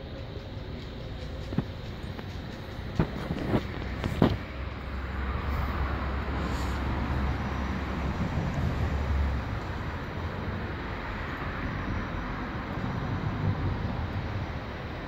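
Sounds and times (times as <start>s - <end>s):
rumble of vehicles and trains: 0.0s - 15.0s.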